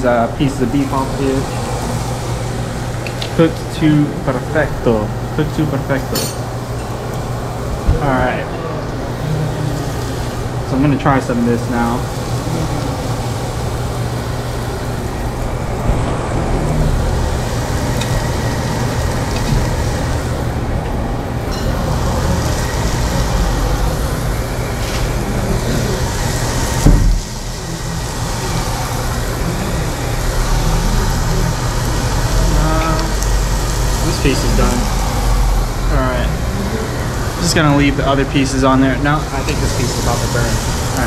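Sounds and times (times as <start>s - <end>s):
low hum and hiss: 0.0s - 41.0s
meat sizzling on grill: 0.4s - 41.0s.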